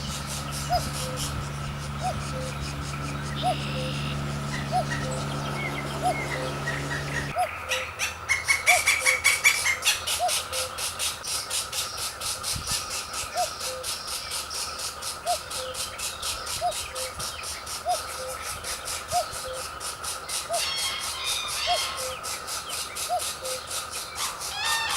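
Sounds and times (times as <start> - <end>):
nestlings squealing calls: 0.0 - 24.9.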